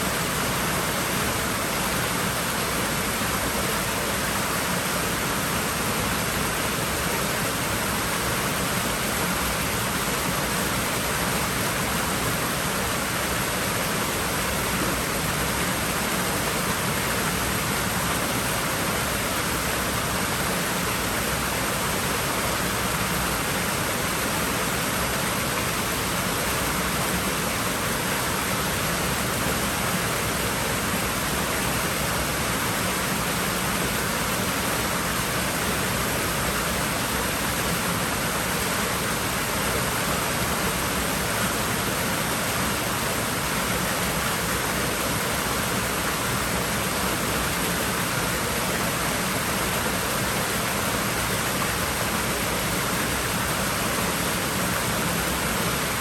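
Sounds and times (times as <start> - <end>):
water rushing in a pool: 0.0 - 56.0.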